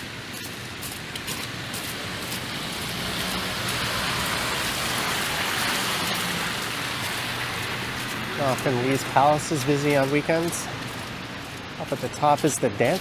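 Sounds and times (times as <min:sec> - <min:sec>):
tyres hissing through slush: 0:00.2 - 0:13.0.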